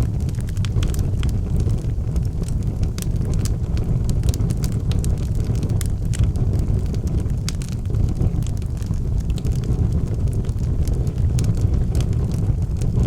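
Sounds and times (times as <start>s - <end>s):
logs crackling and popping: 0.0s - 13.0s
low rumble of fire: 0.0s - 13.0s.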